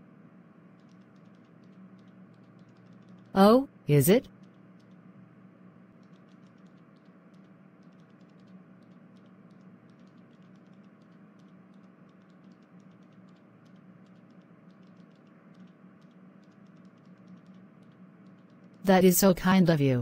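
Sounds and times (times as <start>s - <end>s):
steady low hum: 0.0s - 20.0s
keyboard typing: 0.7s - 3.5s, 4.2s - 5.1s, 5.8s - 19.4s.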